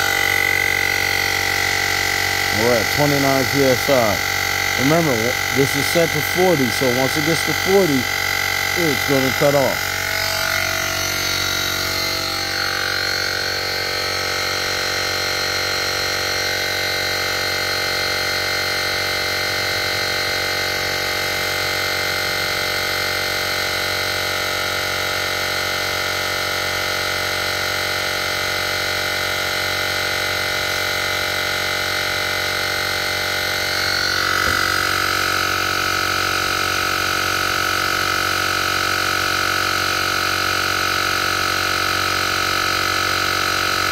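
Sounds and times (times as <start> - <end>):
air compressor running: 0.0 - 43.9.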